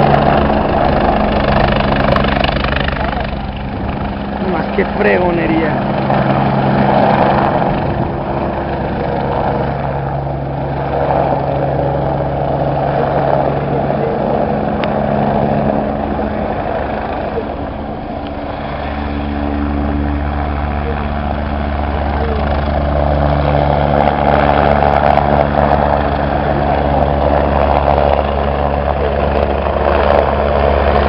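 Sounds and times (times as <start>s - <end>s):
helicopter engine and rotor drone: 0.0s - 31.0s.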